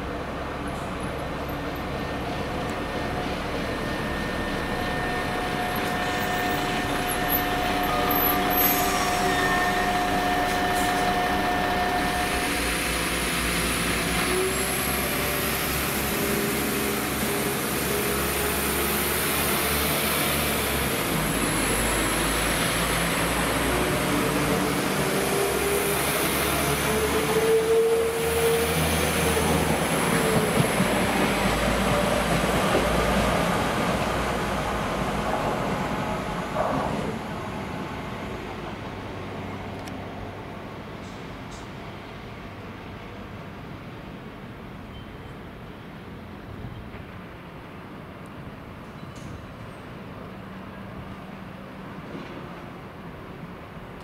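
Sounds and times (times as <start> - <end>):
diesel train engine running: 0.0 - 43.6.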